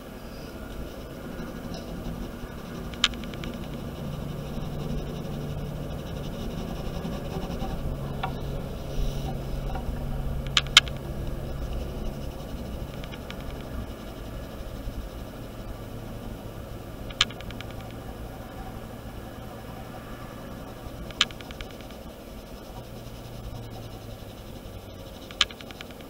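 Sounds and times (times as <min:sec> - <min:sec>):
low hum and hiss: 0:00.0 - 0:26.0
sharp clicks: 0:00.7 - 0:18.2, 0:20.7 - 0:26.0.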